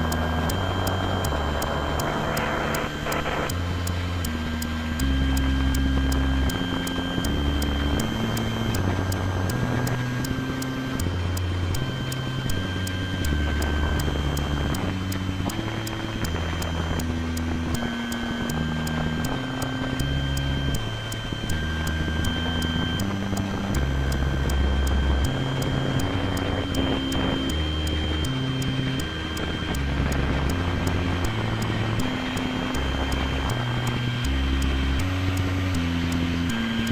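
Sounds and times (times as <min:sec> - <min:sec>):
droning synthesizer bass line: 0:00.0 - 0:36.9
steady ticking pulse: 0:00.0 - 0:36.9.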